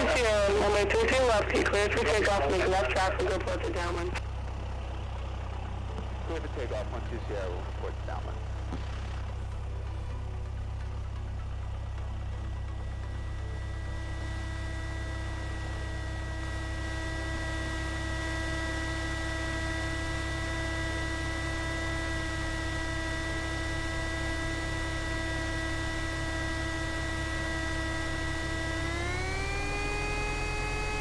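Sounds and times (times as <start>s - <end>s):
cockpit pitched hum: 0.0s - 31.0s.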